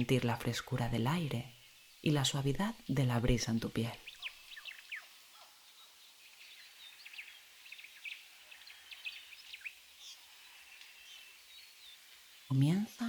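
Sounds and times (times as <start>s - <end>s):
birds chirping: 0.0s - 13.0s
soft steady hiss: 0.0s - 13.0s.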